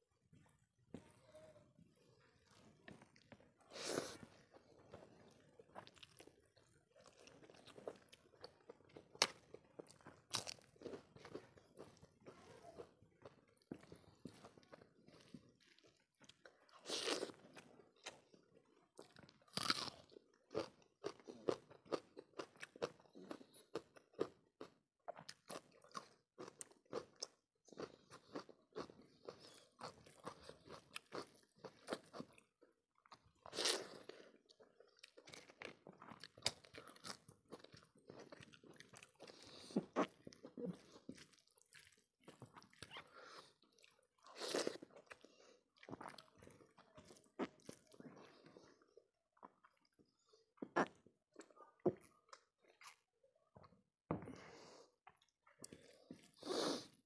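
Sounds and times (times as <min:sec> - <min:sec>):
chewing and crunching: 0:00.4 - 0:53.8.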